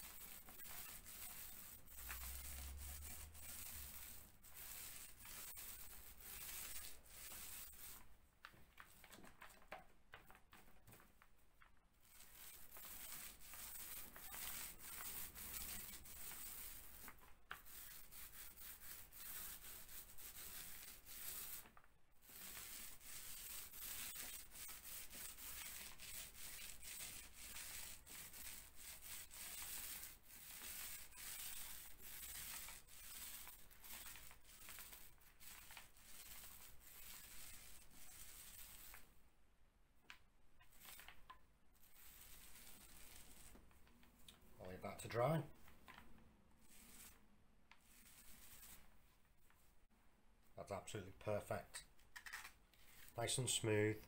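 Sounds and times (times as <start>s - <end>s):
paint roller rubbing on plasterboard: 0.0s - 11.2s, 12.0s - 39.2s, 40.6s - 46.0s, 46.6s - 47.2s, 47.8s - 49.6s, 51.2s - 53.8s.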